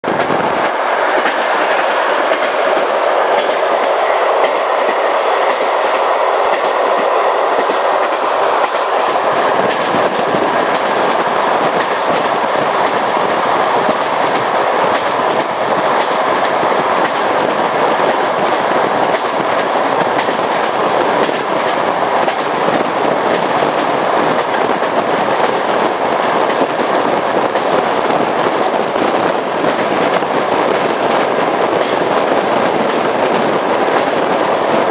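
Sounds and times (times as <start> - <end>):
train running noise: 0.0 - 34.9
train wheels clickety-clack: 0.0 - 34.9.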